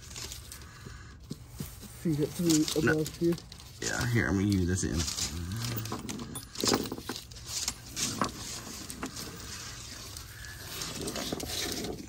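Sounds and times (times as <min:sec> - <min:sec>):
plastic wire loom rustling: 0:01.6 - 0:12.0.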